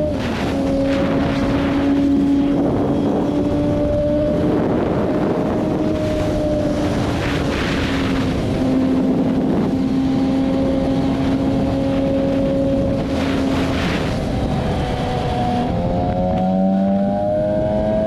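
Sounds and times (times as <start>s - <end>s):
motorcycle engine running: 0.0s - 18.0s
wind rush on microphone: 0.0s - 18.0s.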